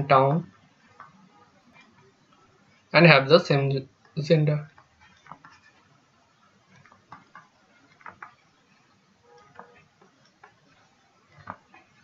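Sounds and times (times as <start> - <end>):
stylus tapping on screen: 0.4 - 2.9, 3.9 - 12.0.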